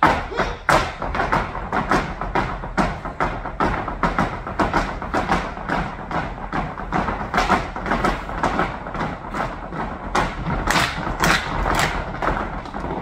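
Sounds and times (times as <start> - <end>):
shoes stamping on wooden stage: 0.0 - 13.0.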